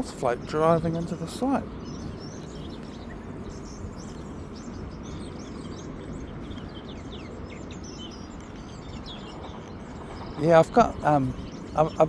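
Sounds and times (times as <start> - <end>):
low background rumble: 0.0 - 12.0
small birds chirping and whistling: 0.0 - 12.0.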